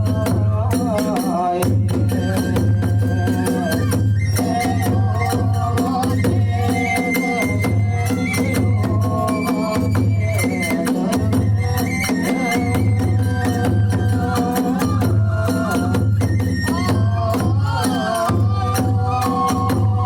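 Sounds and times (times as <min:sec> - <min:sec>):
drums and hand cymbals: 0:00.0 - 0:20.0
wavering flute melody: 0:01.5 - 0:20.0.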